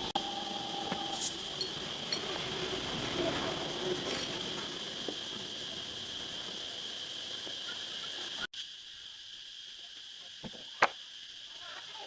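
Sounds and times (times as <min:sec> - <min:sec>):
high-pitched insect chirring: 0:00.0 - 0:12.0.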